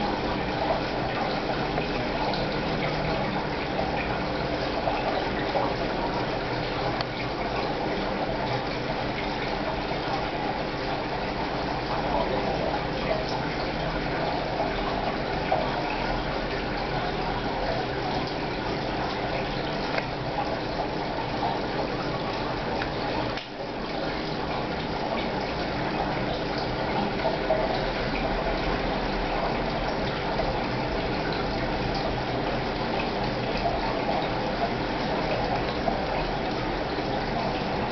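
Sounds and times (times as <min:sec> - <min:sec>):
faint pump hum: 0:00.0 - 0:37.9
splashing and bubbling water: 0:00.0 - 0:37.9.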